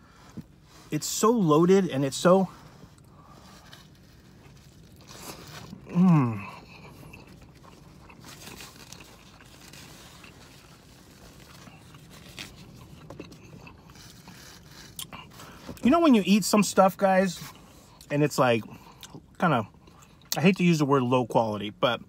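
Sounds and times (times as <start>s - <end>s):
person chewing pizza: 1.4s - 15.9s, 17.4s - 20.6s.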